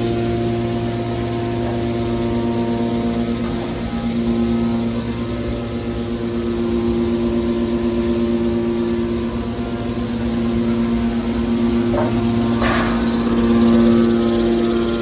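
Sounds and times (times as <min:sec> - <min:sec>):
hydraulic baler motor hum: 0:00.0 - 0:15.0.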